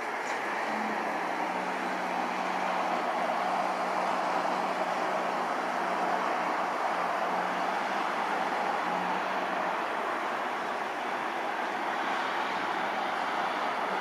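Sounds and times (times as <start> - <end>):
distant jet engines roaring: 0.0 - 14.0.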